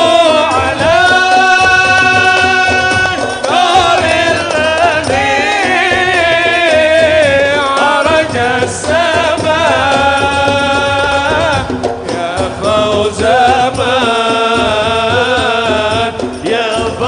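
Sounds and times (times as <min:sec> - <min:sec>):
man singing: 0:00.0 - 0:17.0
musical accompaniment: 0:00.0 - 0:17.0.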